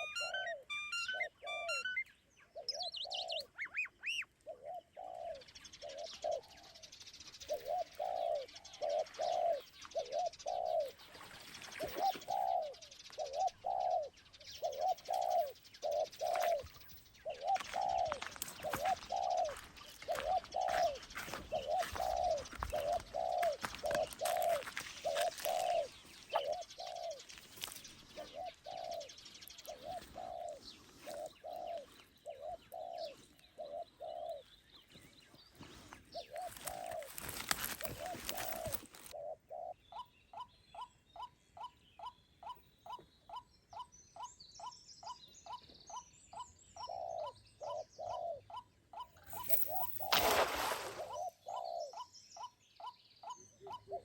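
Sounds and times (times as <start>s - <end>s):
small birds chirping: 0.0s - 54.0s
doves cooing: 2.5s - 39.8s, 46.4s - 52.1s, 53.3s - 54.0s.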